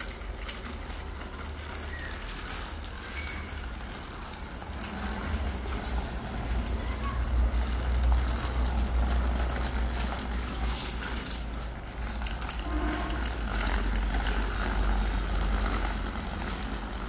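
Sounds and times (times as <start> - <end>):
bicycle rolling over tiles: 0.0 - 17.0
wheels rattling and clicking: 0.0 - 17.0.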